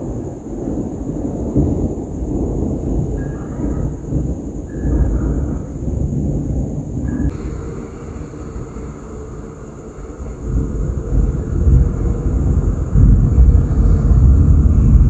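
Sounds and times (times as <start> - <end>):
rolling thunder rumble: 0.0 - 15.0.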